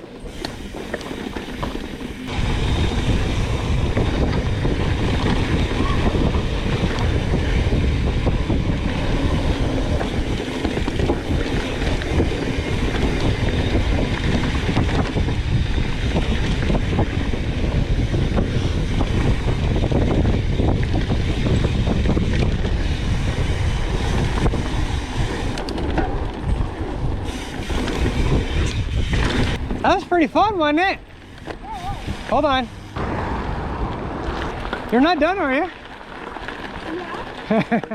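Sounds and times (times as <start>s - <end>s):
wind on microphone: 0.0s - 29.8s, 31.5s - 37.6s
bike rattling over bumps: 0.0s - 37.9s
bike tyres on dirt: 0.0s - 37.9s.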